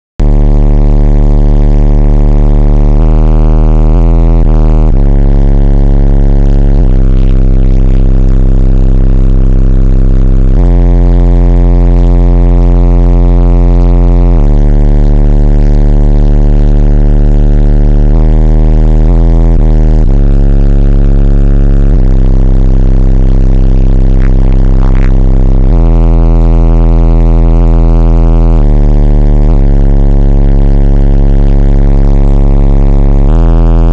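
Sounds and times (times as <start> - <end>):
distorted deep bass notes: 0.0 - 33.9.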